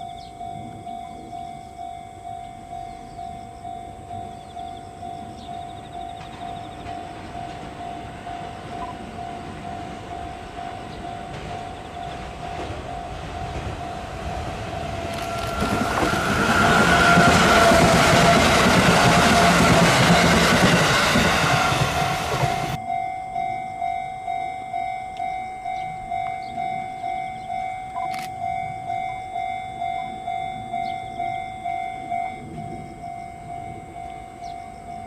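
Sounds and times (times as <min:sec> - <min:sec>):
electric train rumbling past: 0:00.0 - 0:35.0
level-crossing alarm bell dinging: 0:00.0 - 0:35.0.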